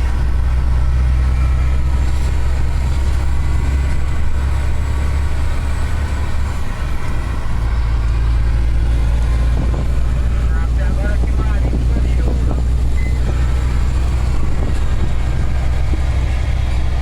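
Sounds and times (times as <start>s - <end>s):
road vehicle engine and tyre drone: 0.0s - 17.0s.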